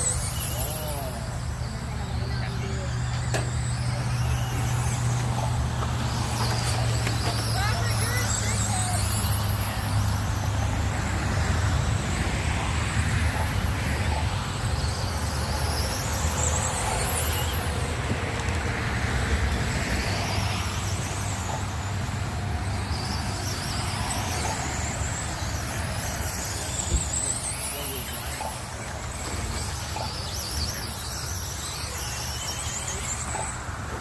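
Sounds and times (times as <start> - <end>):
rc car motors whining: 0.0 - 34.0.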